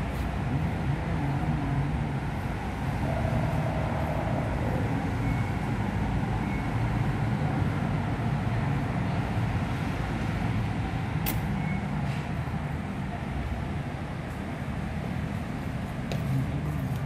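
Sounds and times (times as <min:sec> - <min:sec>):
low rumble of trains and traffic: 0:00.0 - 0:17.0.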